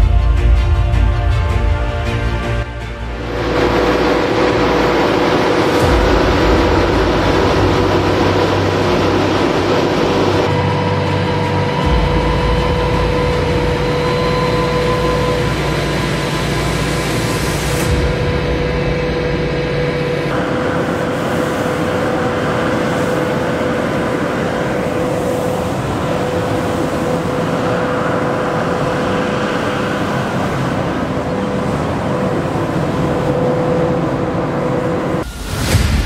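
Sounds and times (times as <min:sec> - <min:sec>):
diesel engine of wheel loader: 0:00.0 - 0:36.0
steady mechanical whine: 0:00.0 - 0:36.0.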